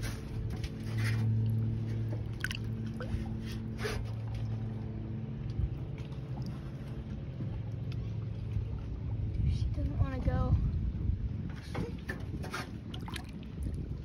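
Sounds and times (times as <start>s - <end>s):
water sloshing and splashing: 0.0s - 10.3s, 11.6s - 14.0s
steady low hum: 0.0s - 14.0s.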